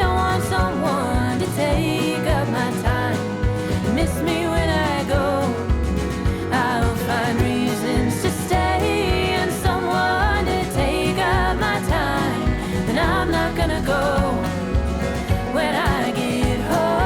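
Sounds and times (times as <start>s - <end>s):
country song with singing: 0.0s - 17.0s.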